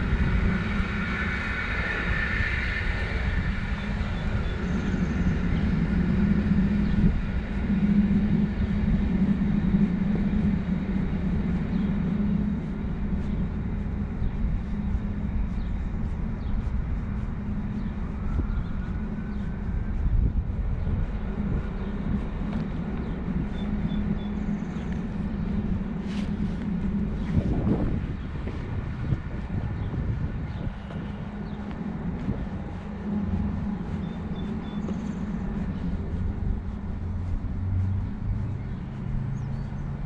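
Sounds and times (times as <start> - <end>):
distant traffic rumble: 0.0 - 40.0
low hum: 0.0 - 40.0.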